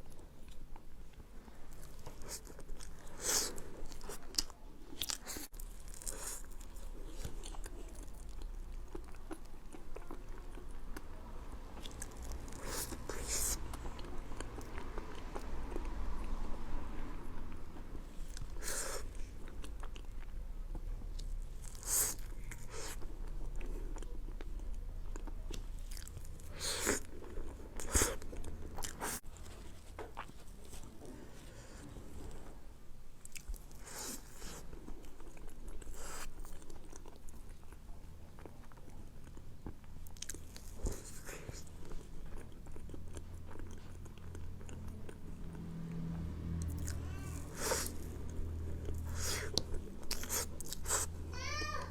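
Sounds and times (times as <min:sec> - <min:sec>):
person chewing: 0:01.6 - 0:11.1, 0:11.7 - 0:32.4, 0:33.2 - 0:45.7, 0:46.6 - 0:51.3.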